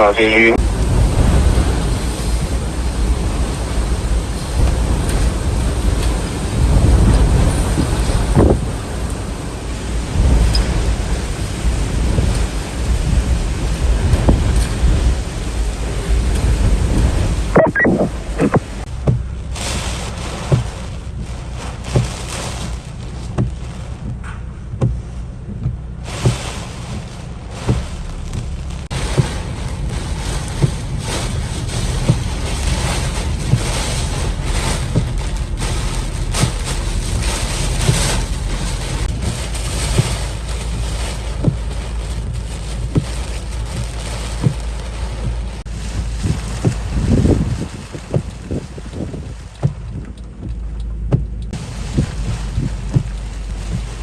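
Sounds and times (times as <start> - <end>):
wind buffeting microphone: 0.6 - 27.9, 28.5 - 54.0.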